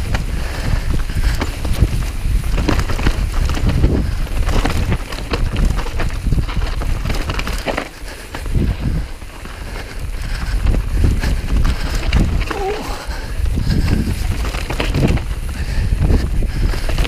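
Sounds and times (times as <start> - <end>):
bike rattling over bumps: 0.0 - 17.0
tyres on dirt: 0.0 - 17.0
wind rumbling on microphone: 0.0 - 17.0.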